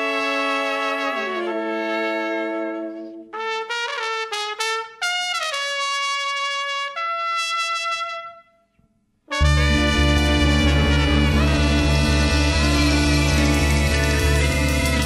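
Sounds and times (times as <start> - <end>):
trumpet and trombone ska line: 0.0 - 8.5, 9.3 - 15.0.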